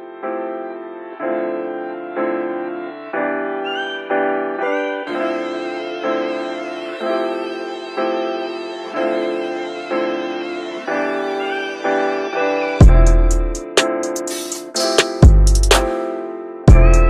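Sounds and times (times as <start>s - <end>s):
music with sustained chords: 0.0s - 17.0s.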